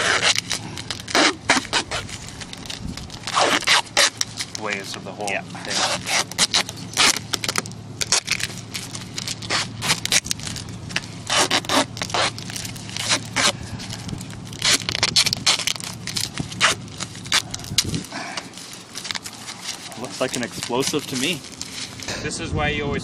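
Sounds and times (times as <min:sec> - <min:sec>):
hay rustling and scraping: 0:00.0 - 0:22.1.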